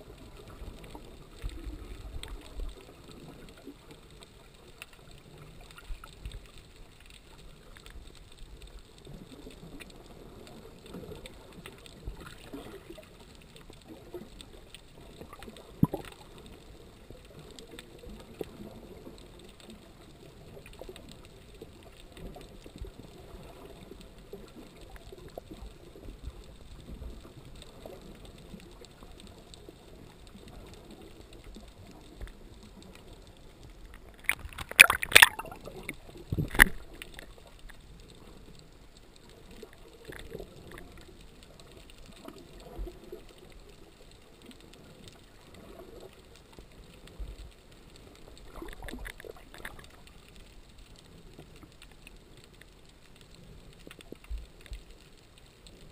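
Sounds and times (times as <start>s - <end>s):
rush of water: 0.0s - 18.6s, 20.2s - 55.9s
faint clicks: 0.0s - 55.9s.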